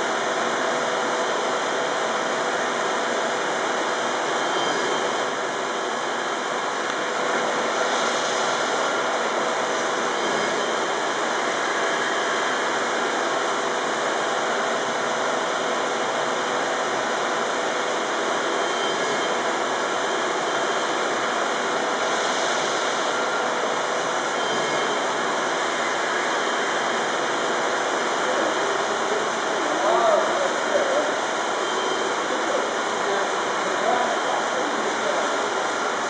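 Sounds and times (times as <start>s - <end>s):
steady rushing machinery noise: 0.0s - 36.0s.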